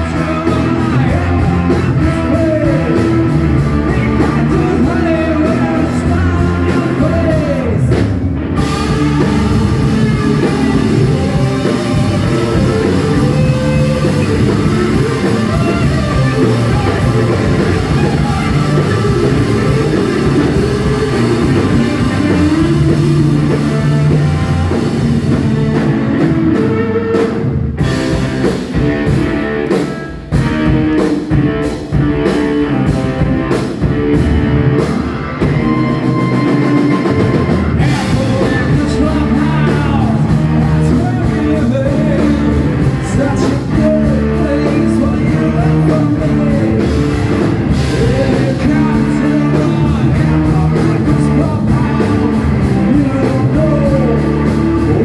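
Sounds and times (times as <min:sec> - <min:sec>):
person singing: 0:00.0 - 0:08.0, 0:08.6 - 0:25.1, 0:35.4 - 0:55.0
live rock band playing: 0:00.0 - 0:55.0.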